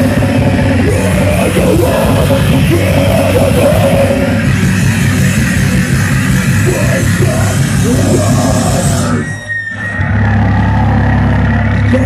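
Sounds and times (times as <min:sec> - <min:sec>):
yelled vocals: 0:00.0 - 0:10.9
loud distorted punk band: 0:00.0 - 0:12.0
steady low drone: 0:00.0 - 0:12.0.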